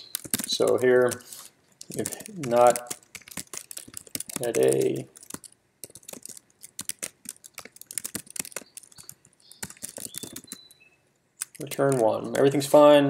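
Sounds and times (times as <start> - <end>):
typing on keyboard: 0.0 - 10.8, 11.4 - 12.6.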